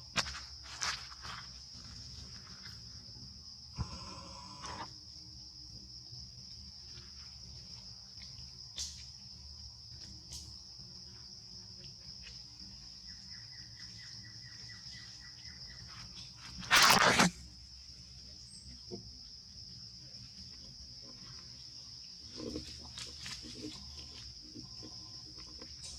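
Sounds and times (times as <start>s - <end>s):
crickets droning: 0.0s - 25.9s.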